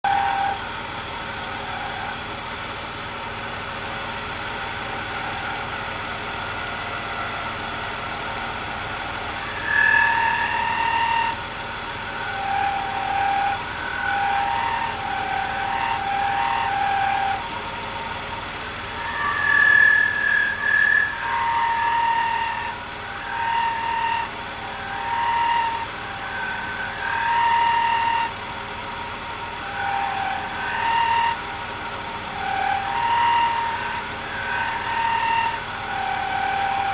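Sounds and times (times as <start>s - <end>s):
car engine running: 0.0s - 36.9s
high whirring whine: 0.1s - 36.9s.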